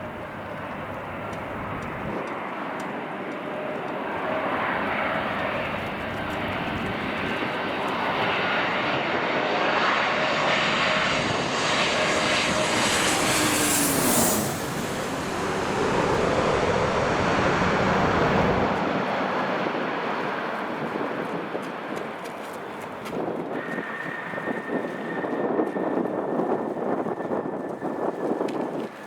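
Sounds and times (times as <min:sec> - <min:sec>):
airliner engine passing: 0:00.0 - 0:29.0
wind buffeting microphone: 0:00.0 - 0:29.0.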